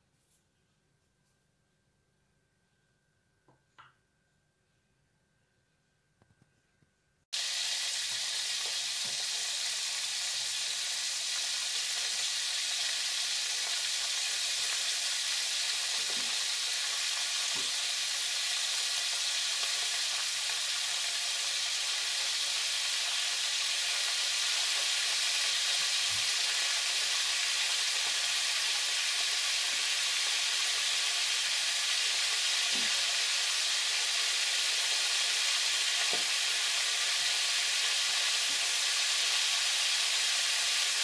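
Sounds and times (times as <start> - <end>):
oil sizzling in a frying pan: 7.3 - 41.0.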